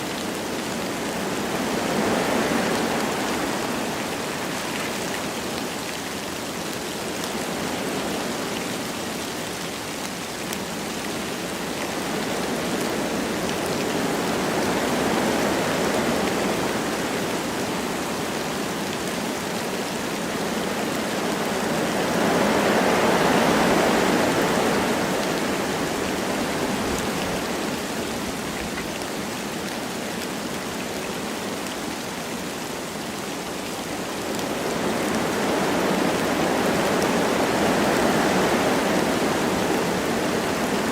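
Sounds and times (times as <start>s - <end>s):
light rain: 0.0s - 40.9s
wind through trees: 0.0s - 40.9s.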